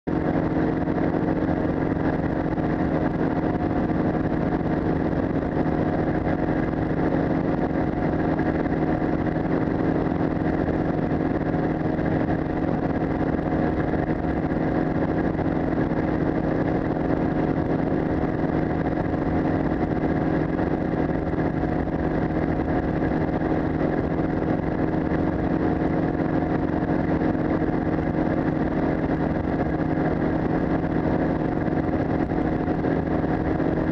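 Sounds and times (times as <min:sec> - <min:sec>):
engine and propeller running: 0:00.0 - 0:33.9.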